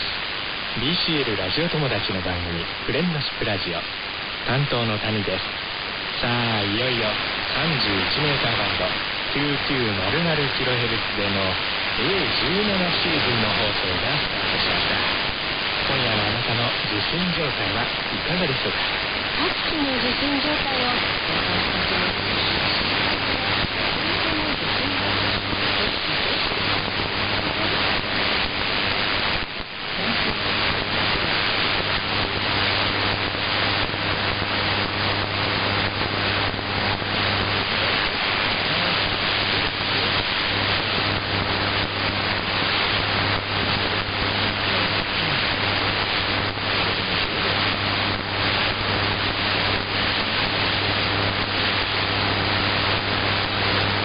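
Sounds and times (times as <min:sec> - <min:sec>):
faint radio broadcast: 0:00.0 - 0:54.0
radio static hiss: 0:00.0 - 0:54.0.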